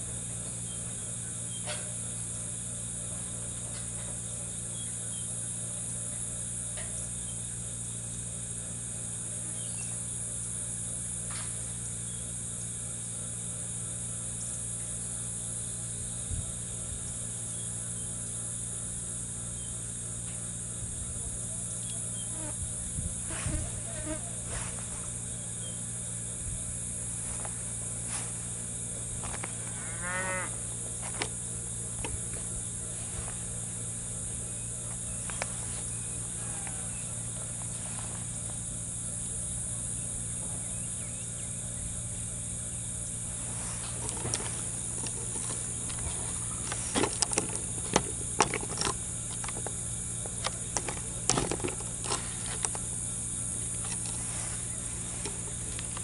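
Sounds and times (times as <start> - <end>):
insect chorus: 0.0 - 56.0
low steady hum: 0.0 - 56.0.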